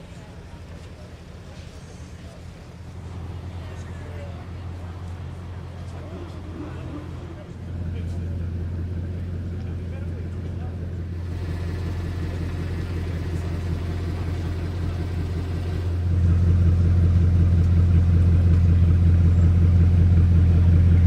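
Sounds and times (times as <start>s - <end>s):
car engine deep drone: 0.0s - 21.0s.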